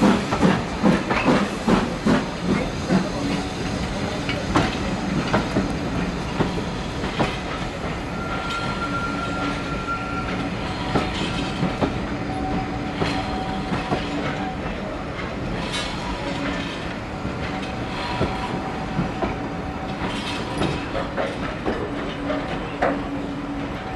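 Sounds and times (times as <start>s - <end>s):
train wheels clicking over rail joints: 0.0s - 23.9s.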